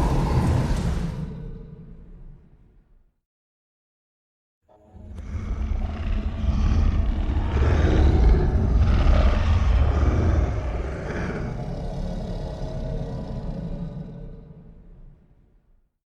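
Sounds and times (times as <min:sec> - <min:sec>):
deep rumbling monster roar: 0:00.0 - 0:02.5, 0:04.8 - 0:15.2.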